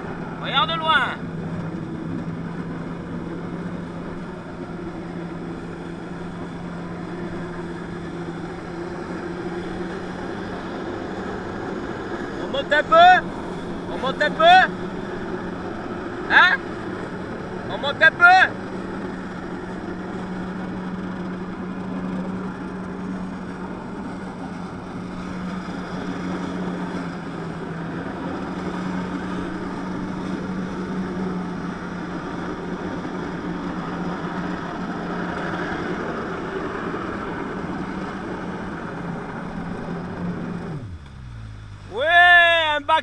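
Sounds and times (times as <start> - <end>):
jet ski engine running: 0.0 - 43.0.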